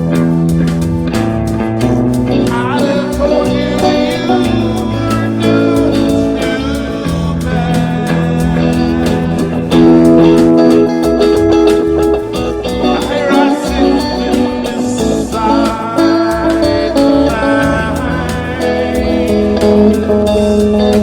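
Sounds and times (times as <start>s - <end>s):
bass line: 0.0s - 21.0s
guitar music: 0.0s - 21.0s
sharp drum beats: 0.0s - 21.0s.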